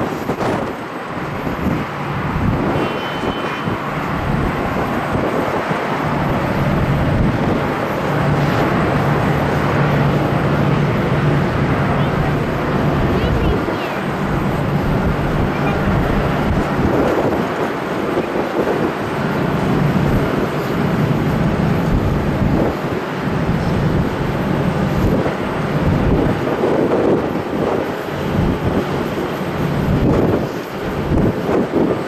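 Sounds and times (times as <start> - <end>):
jet engines running: 0.0 - 32.0
wind buffeting microphone: 0.0 - 32.0.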